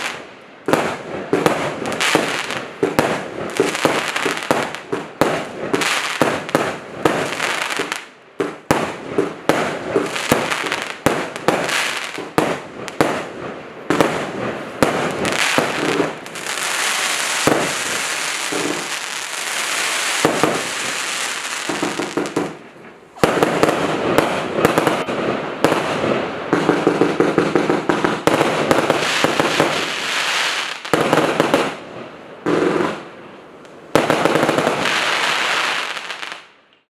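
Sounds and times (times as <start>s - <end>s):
dense firework crackling: 0.0s - 36.6s.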